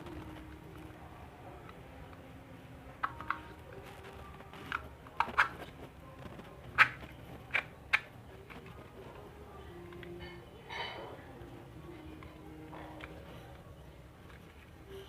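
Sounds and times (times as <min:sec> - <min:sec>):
faint steady background hum: 0:00.0 - 0:15.0.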